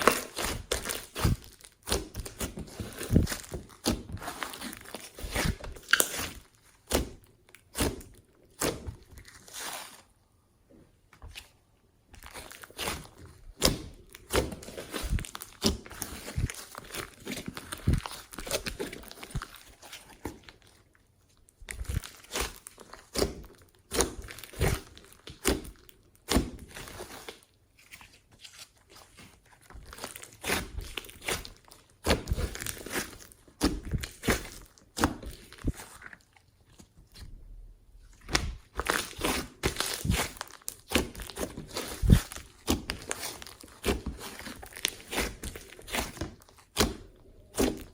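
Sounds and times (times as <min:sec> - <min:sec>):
slime clicking and squelching: 0:00.0 - 0:10.0, 0:12.2 - 0:27.5, 0:29.6 - 0:37.2, 0:38.1 - 0:47.9.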